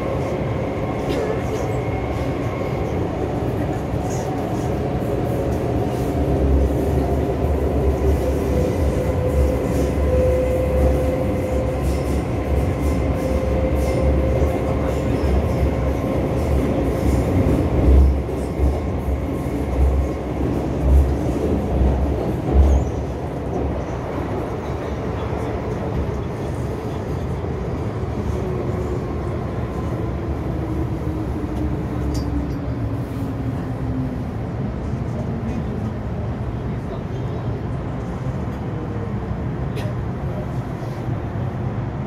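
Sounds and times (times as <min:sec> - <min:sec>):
wheels rumbling on rail: 0:00.0 - 0:42.0.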